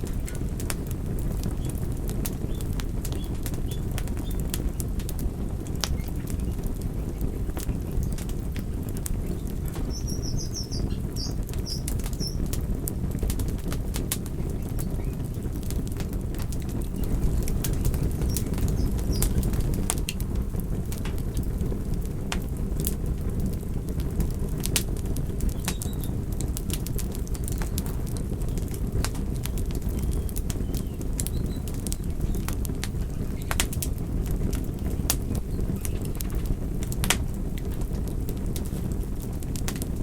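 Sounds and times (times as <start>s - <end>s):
fire crackles and pops: 0.0s - 40.0s
wood fire burning: 0.0s - 40.0s.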